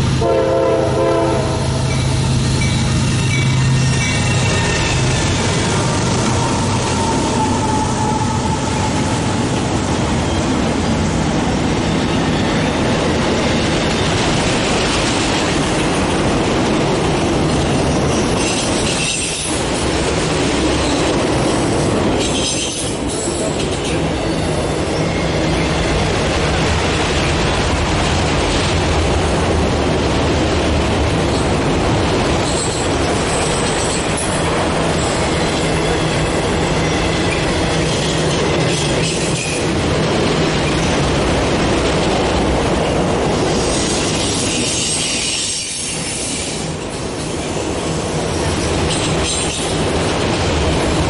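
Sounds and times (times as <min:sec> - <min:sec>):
train cars rattling: 0:00.0 - 0:51.0
steel wheels on rails: 0:01.8 - 0:51.0.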